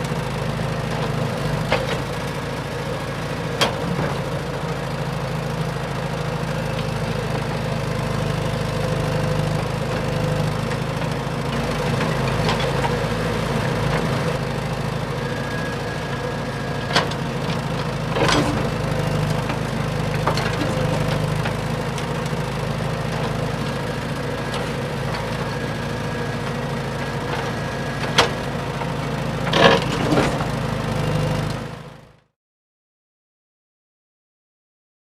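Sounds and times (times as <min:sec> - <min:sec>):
excavator engine running: 0:00.0 - 0:32.3.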